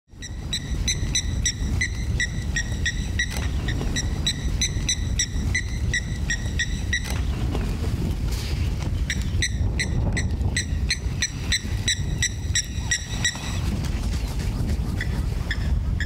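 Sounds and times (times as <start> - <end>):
wind rumble on microphone: 0.1 - 16.0.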